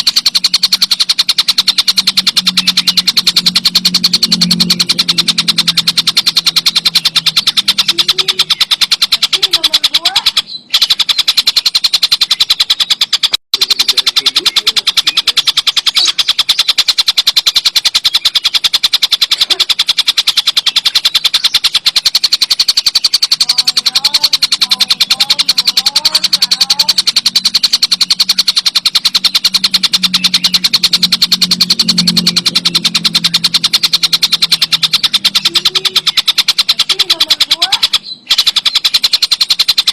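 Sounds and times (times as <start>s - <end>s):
bird calling in rapid rattle: 0.0s - 39.9s
low hum: 0.0s - 39.9s.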